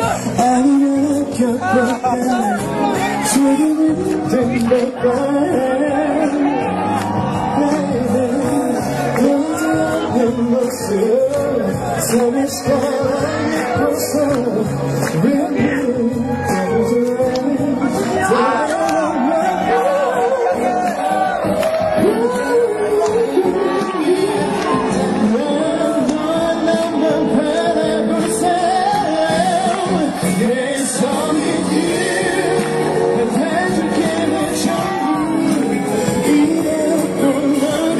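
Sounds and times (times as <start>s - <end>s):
amplified backing music: 0.0s - 37.9s
man singing into microphone: 0.0s - 37.9s.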